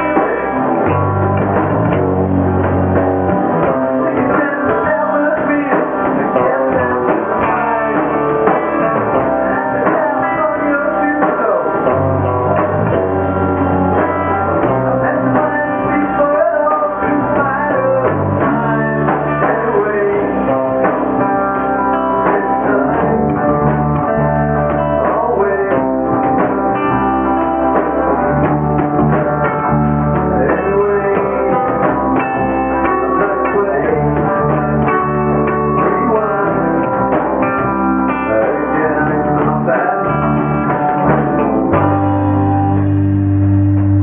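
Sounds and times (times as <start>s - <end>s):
rock band playing live: 0.0s - 44.0s.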